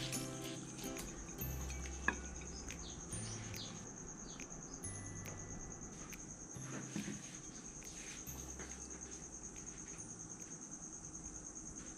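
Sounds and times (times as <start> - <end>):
high-pitched insect trill: 0.0 - 11.9.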